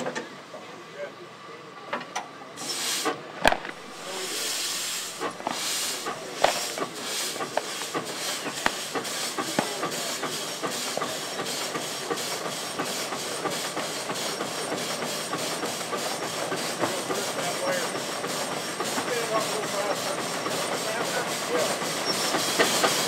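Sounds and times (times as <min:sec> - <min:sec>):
steam hissing: 0:02.5 - 0:23.0
steam engine exhaust chuffs: 0:02.6 - 0:23.0.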